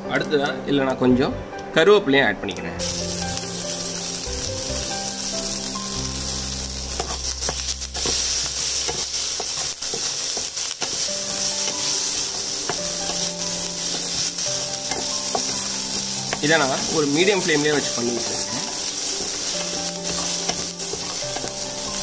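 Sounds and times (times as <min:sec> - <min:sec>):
soft background music: 0:00.0 - 0:22.0
spices sizzling in hot oil: 0:02.8 - 0:22.0.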